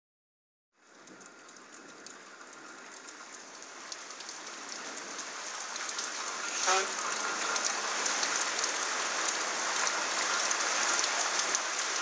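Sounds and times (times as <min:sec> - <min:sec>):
rain falling: 0:00.8 - 0:12.0.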